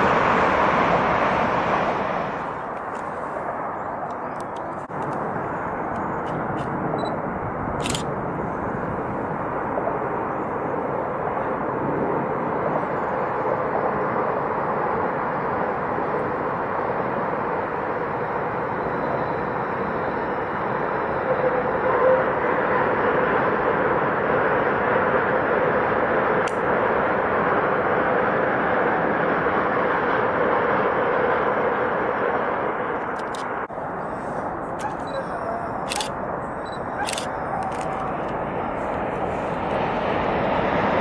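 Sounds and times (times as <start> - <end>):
distant trains rushing: 0.0 - 41.0.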